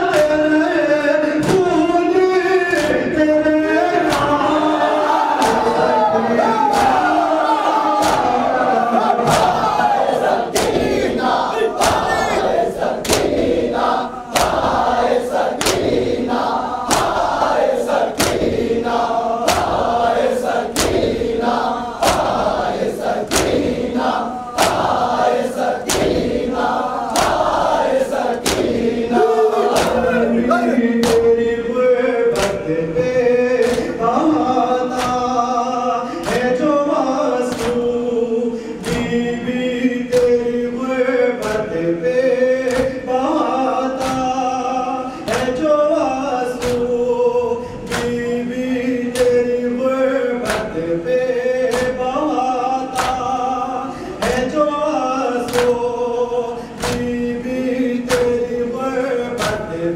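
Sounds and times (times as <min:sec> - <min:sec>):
lead reciter's voice: 0:00.0 - 0:59.9
men chanting in unison: 0:00.0 - 0:59.9.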